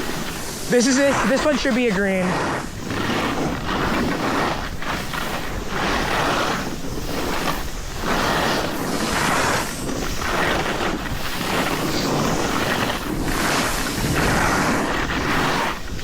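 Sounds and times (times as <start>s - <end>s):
snowboard scraping packed snow: 0.0s - 16.0s
wind on microphone: 0.0s - 16.0s.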